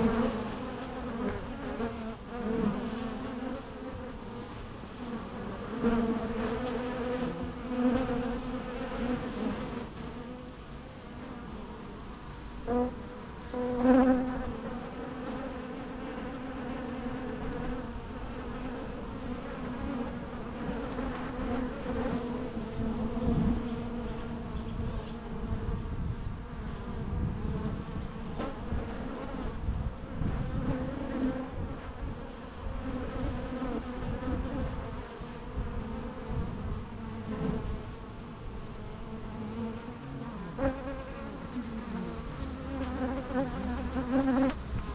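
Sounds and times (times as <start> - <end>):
bees buzzing: 0.0 - 25.7, 30.2 - 44.9.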